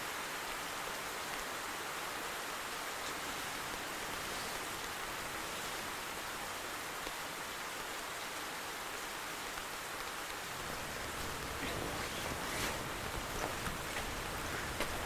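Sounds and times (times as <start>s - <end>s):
rain on plastic umbrella: 0.0s - 15.0s
rain on rooftop: 0.0s - 15.0s.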